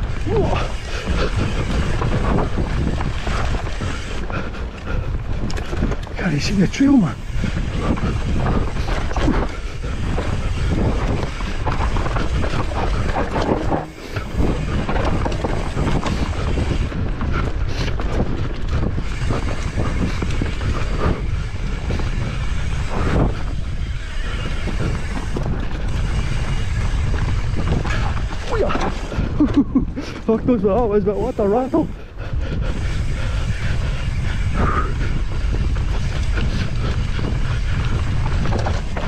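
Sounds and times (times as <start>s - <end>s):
bike rattling on bumps: 0.0s - 39.0s
bike tyres rumbling over dirt: 0.0s - 39.0s
wind buffeting microphone: 0.0s - 39.0s.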